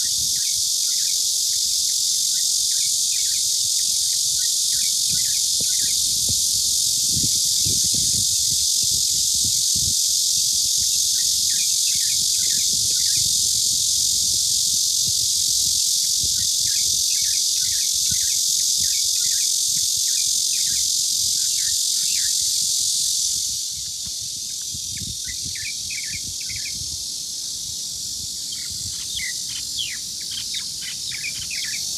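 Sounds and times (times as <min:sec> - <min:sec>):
cicadas droning: 0:00.0 - 0:31.9.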